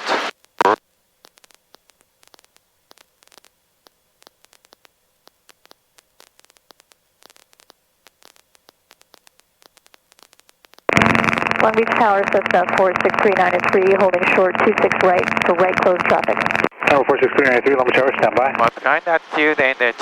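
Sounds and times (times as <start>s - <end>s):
faint steady hum: 0.0s - 20.0s
radio static hiss: 0.0s - 20.0s
small crackling clicks: 0.3s - 18.7s.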